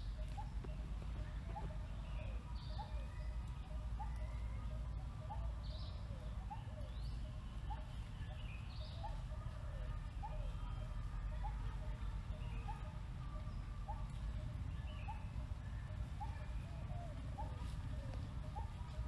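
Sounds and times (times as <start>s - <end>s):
high sweeping bird calls: 0.0s - 19.0s
steady low rumble: 0.0s - 19.0s.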